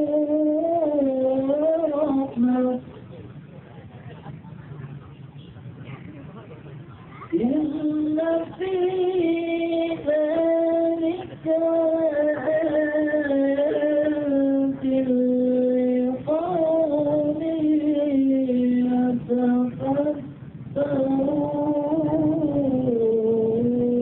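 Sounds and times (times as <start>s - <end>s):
person chanting over loudspeaker: 0.0s - 3.0s, 7.3s - 24.0s.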